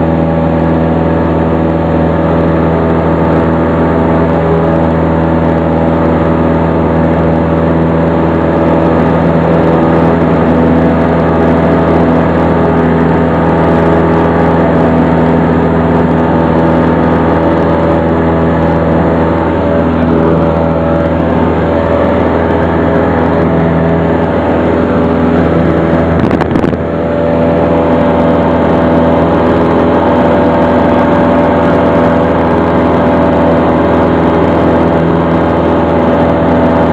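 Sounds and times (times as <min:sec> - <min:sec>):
light aircraft engine drone: 0:00.0 - 0:36.9.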